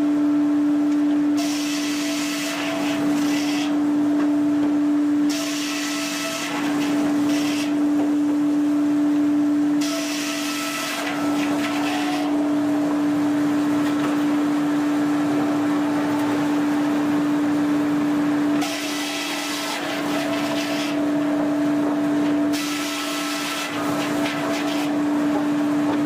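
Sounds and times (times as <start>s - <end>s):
sawmill machinery humming: 0.0s - 26.0s.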